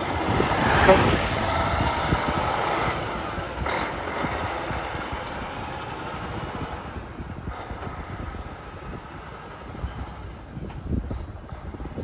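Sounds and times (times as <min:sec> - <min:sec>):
diesel truck engine pulling away: 0:00.0 - 0:12.0.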